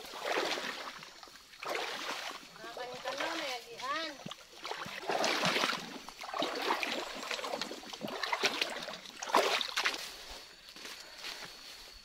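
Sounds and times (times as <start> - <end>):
footsteps wading through water: 0.0 - 11.9.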